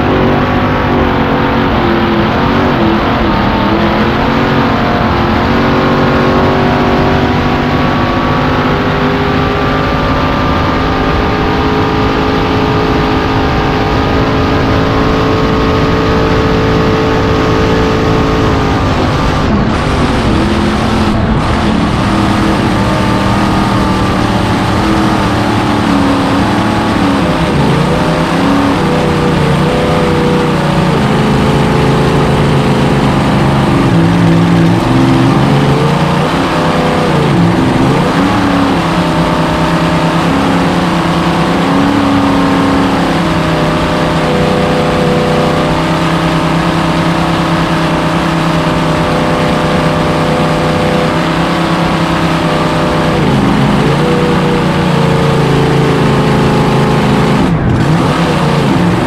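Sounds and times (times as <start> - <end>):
racing boat engine running hard: 0.0 - 59.0
rushing wind: 9.0 - 56.2.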